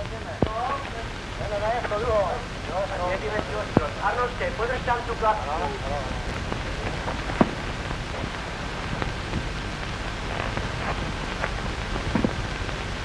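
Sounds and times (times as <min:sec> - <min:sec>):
film soundtrack hiss and crackle: 0:00.0 - 0:13.0
sharp pops: 0:00.0 - 0:13.0.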